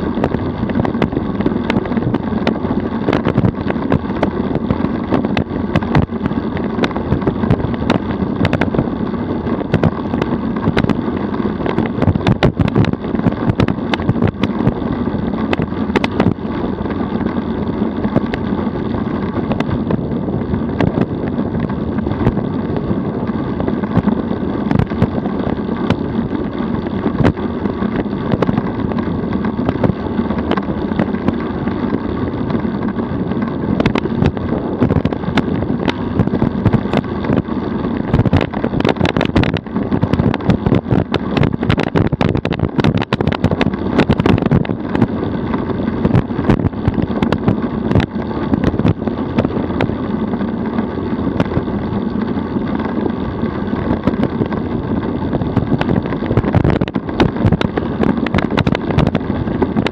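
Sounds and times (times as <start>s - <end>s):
tyres and drivetrain droning: 0.0s - 59.9s
wind on microphone: 0.0s - 59.9s.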